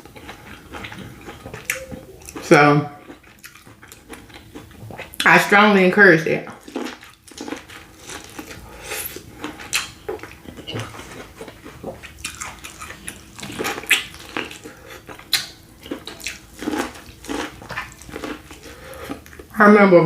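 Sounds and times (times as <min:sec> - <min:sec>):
wet chewing and lip smacking: 0:00.0 - 0:05.3, 0:06.6 - 0:19.5.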